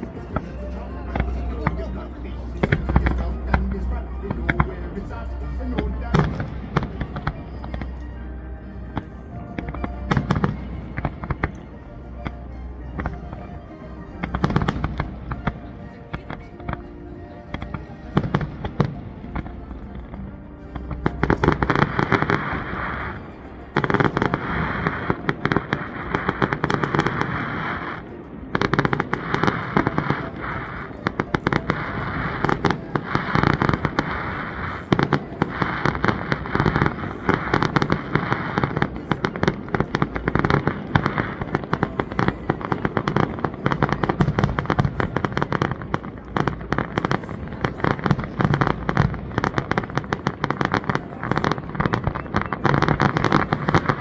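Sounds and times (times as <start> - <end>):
fireworks bangs and crackling: 0.0 - 8.0, 8.7 - 54.0.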